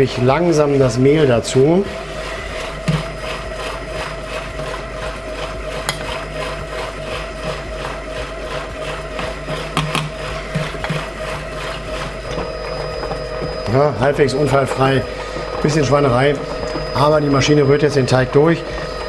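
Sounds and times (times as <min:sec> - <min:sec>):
kitchen machine motor hum: 0:00.0 - 0:19.0.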